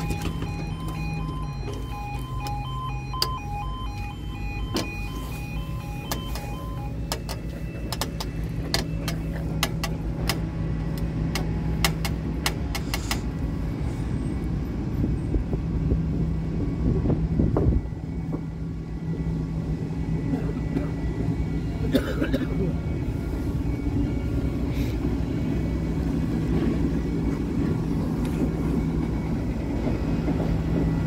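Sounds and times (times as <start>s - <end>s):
two-tone crossing alarm: 0.0s - 12.8s, 16.7s - 31.0s
vehicle engine running: 0.0s - 31.0s.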